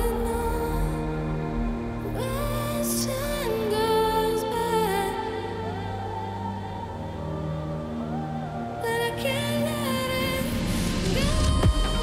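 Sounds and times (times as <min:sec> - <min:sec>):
gliding melody over low tones: 0:00.0 - 0:12.0.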